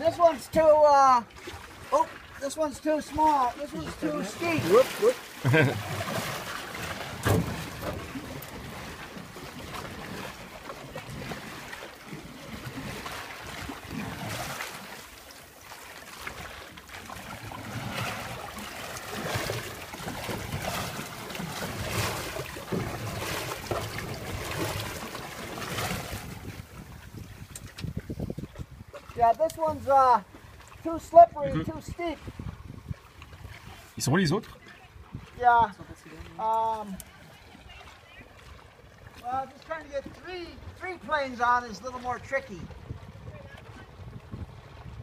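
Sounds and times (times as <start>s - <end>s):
paddle strokes: 0.0s - 45.0s
water splashing around floats: 0.0s - 45.0s.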